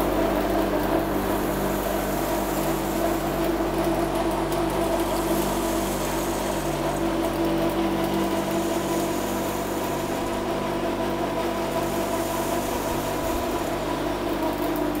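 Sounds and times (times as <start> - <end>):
machine hum from motors and fans: 0.0 - 15.0.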